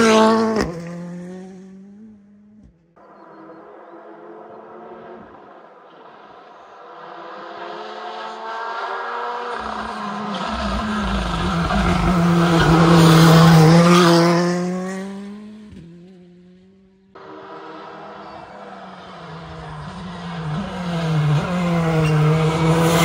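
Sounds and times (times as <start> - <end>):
rally car passing at speed: 0.0 - 23.0.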